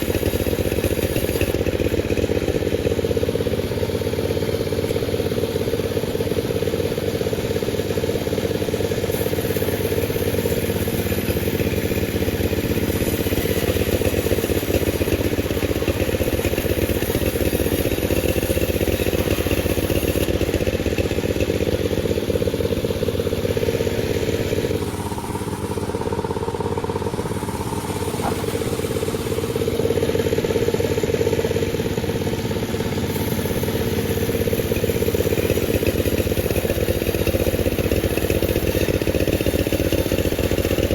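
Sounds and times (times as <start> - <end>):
chainsaw sawing log: 0.0 - 8.0, 8.6 - 40.9.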